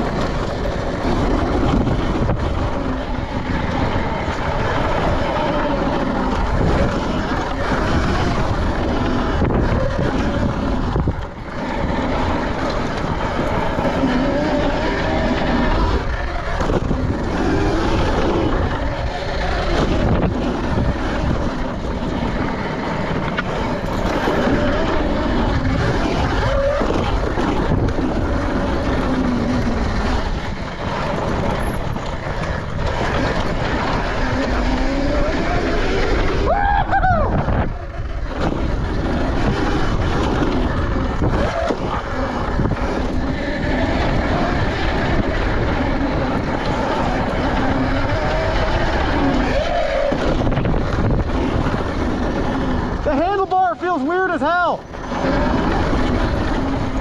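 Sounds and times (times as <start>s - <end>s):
dirt bike engine revving: 0.0s - 57.0s
wind noise: 0.0s - 57.0s.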